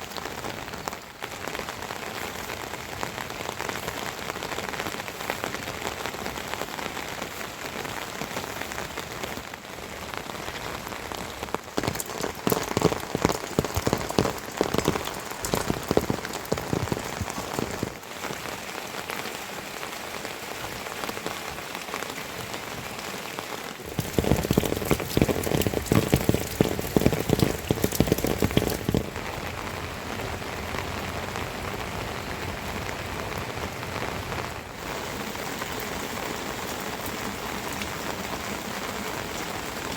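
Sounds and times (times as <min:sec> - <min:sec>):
dense raindrop strikes: 0:00.0 - 0:39.9
steady rain falling: 0:00.0 - 0:39.9.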